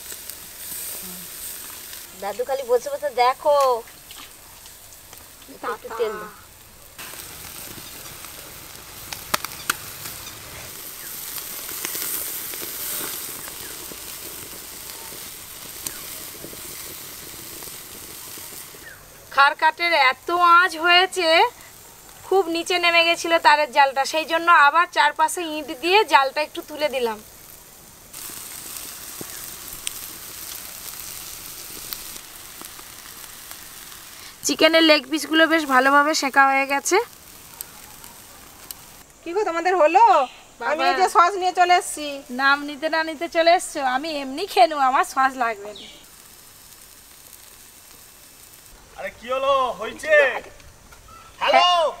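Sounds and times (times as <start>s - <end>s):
chicken sizzling over fire: 0.0s - 52.0s
sharp crackles: 0.0s - 52.0s.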